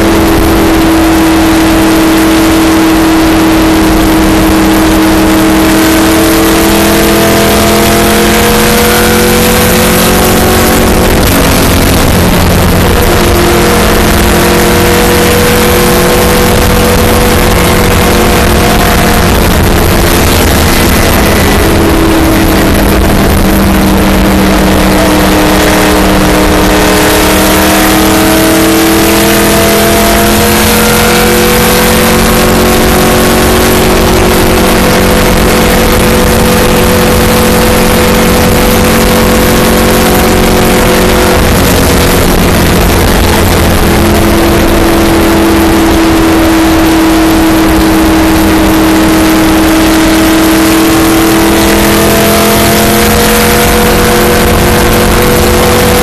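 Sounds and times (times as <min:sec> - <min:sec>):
race car engine running hard: 0:00.0 - 0:56.0
wind and road noise: 0:00.0 - 0:56.0.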